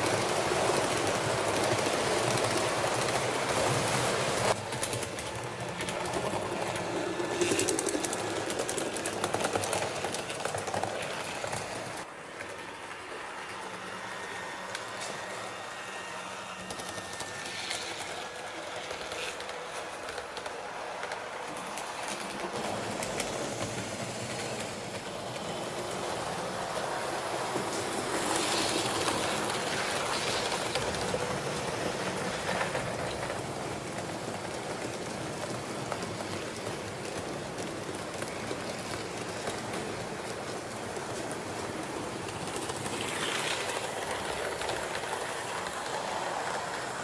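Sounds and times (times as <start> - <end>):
train rolling on track: 0.0 - 47.0.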